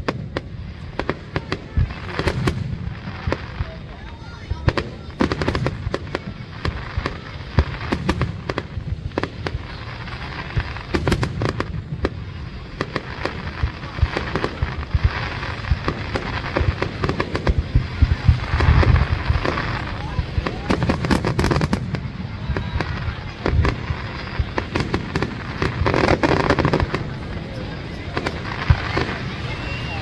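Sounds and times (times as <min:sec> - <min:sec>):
firework bangs: 0:00.0 - 0:30.0
firework crackling: 0:00.0 - 0:30.0.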